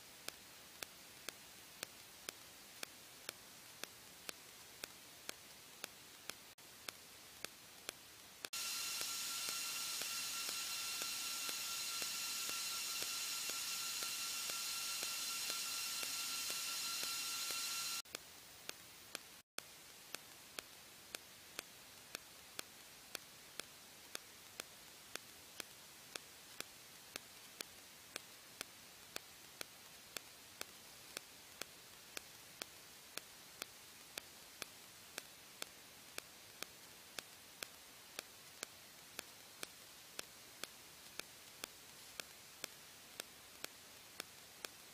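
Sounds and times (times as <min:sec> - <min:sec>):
faint steady hiss: 0:00.0 - 0:44.9.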